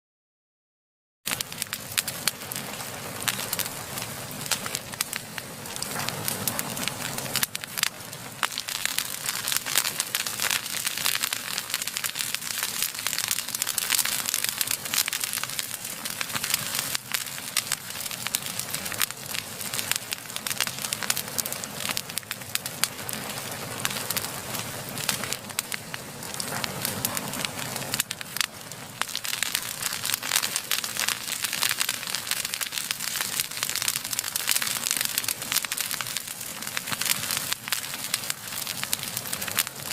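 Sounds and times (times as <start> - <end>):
fireplace fire crackling: 1.3 - 39.9.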